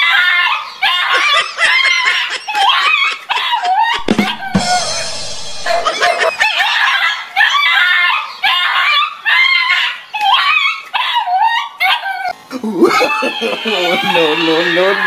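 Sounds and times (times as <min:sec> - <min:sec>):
shrill wavering cries: 0:00.0 - 0:15.0.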